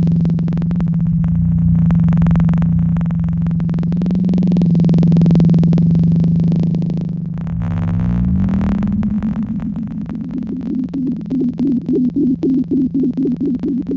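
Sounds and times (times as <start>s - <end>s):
low synthesizer drone: 0.0s - 13.9s
stuttering glitchy noise buzz: 0.0s - 13.9s.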